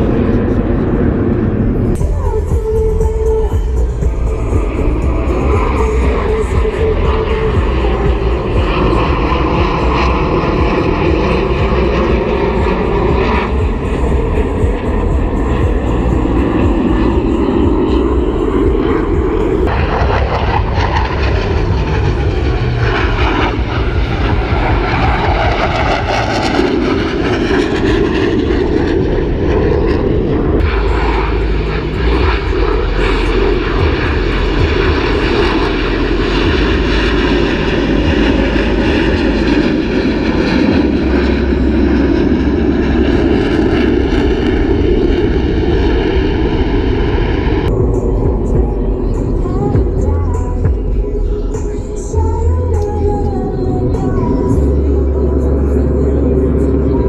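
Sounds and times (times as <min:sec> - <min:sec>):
jets roaring past: 0:00.0 - 0:57.0.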